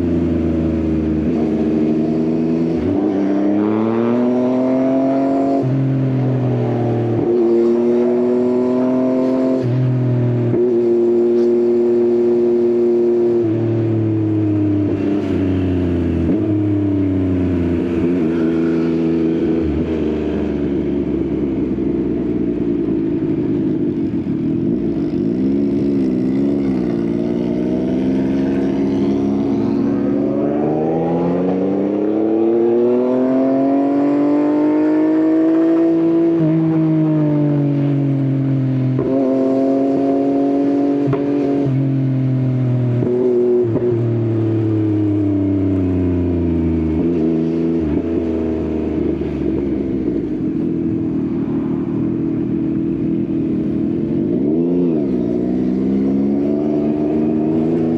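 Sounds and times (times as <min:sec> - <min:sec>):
motorcycle engine: 0:00.0 - 0:57.9.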